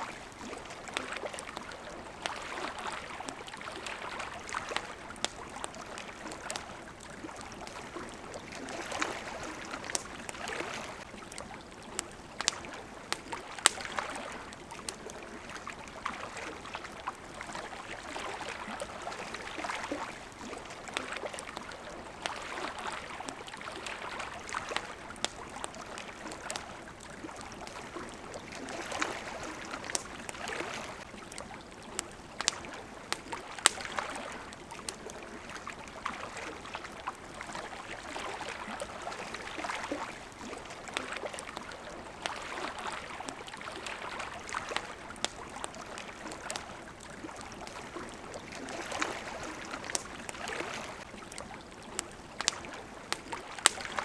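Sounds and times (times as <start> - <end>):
campfire crackling and popping: 0.0 - 54.0
water lapping at shore: 0.0 - 54.0.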